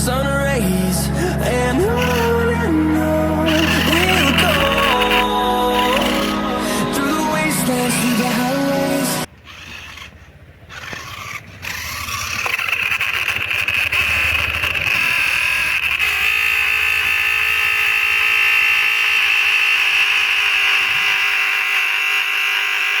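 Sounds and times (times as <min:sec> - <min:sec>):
toy car electric motor whining: 0:01.9 - 0:02.8, 0:03.4 - 0:23.0.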